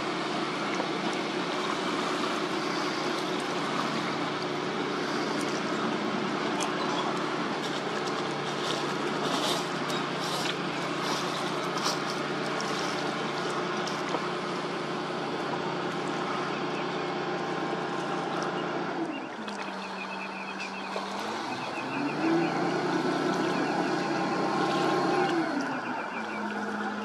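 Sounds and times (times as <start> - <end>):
tugboat diesel engine running: 0.0 - 27.0.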